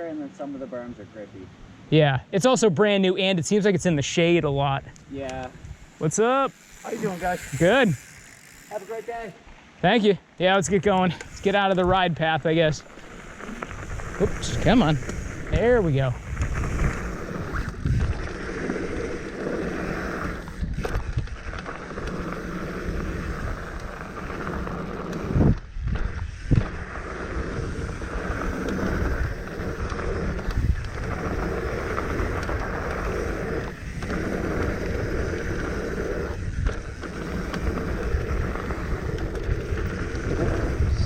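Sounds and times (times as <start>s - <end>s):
bike tyre noise on dirt: 2.8s - 41.0s
wind rushing on microphone: 3.2s - 9.3s, 10.4s - 41.0s.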